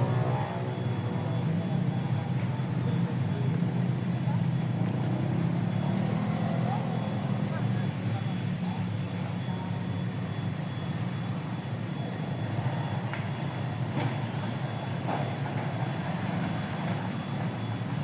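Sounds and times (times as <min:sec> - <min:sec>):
small engine droning: 0:00.0 - 0:18.0.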